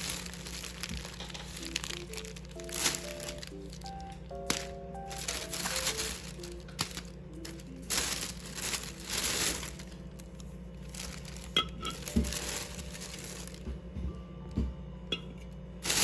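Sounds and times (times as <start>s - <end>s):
plastic bags crinkling: 0.0s - 13.9s, 15.8s - 16.0s.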